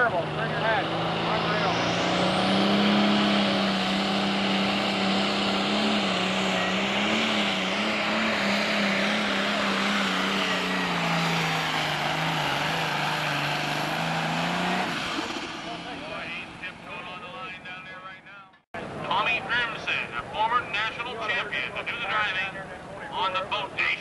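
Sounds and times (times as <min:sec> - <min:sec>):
diesel tractor engine under load: 0:00.0 - 0:24.0.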